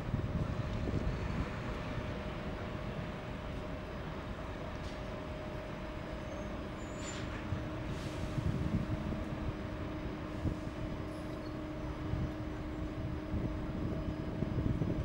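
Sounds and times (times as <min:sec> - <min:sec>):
tram electric hum: 0:00.0 - 0:15.0
wheels rumbling on rails: 0:00.0 - 0:15.0.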